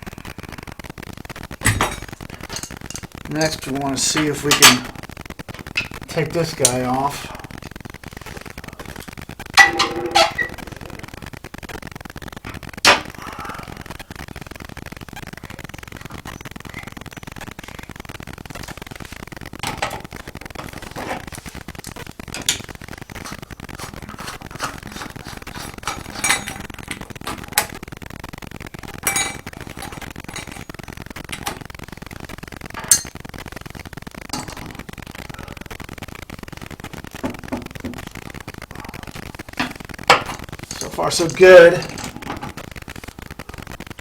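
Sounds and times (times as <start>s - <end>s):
steady hiss: 0.0s - 44.0s.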